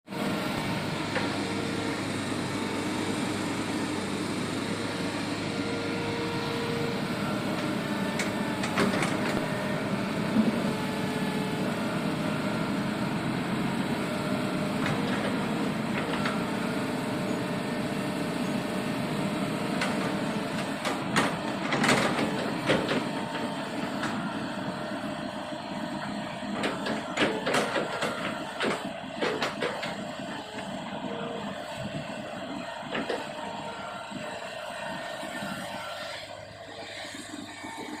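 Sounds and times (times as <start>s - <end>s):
excavator diesel engine running: 0.1s - 38.0s.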